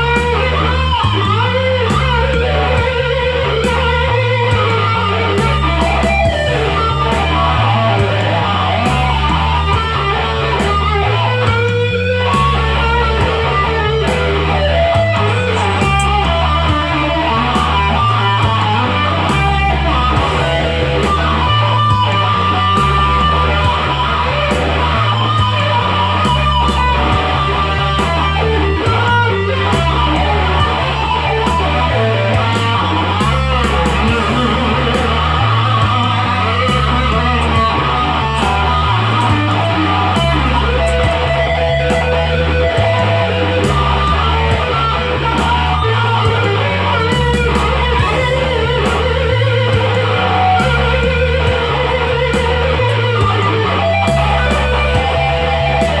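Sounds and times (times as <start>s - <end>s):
bass line: 0.0s - 56.0s
electric guitar lead: 0.0s - 56.0s.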